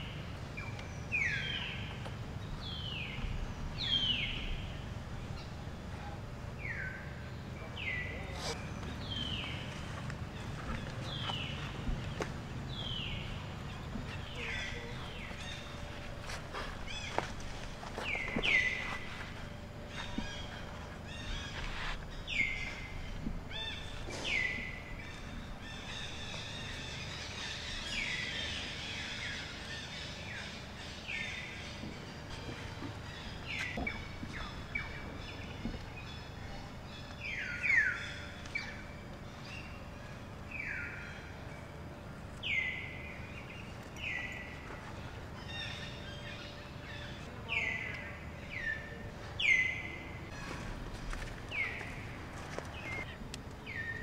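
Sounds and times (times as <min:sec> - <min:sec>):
bird chirping: 0:00.0 - 0:50.6
outdoor background noise: 0:00.0 - 0:54.0.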